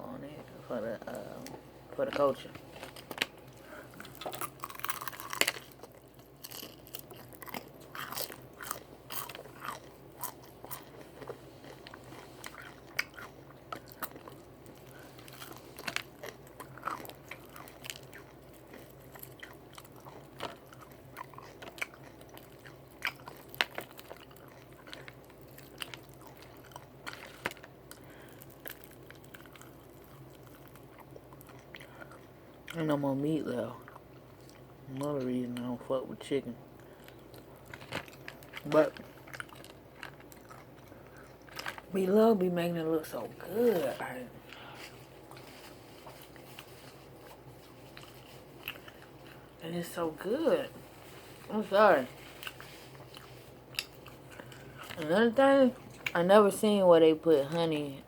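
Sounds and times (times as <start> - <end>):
faint low hum: 0.0 - 58.0
chewing crunches: 2.1 - 32.8, 33.8 - 35.1, 36.8 - 41.9, 43.6 - 49.6, 50.8 - 56.2.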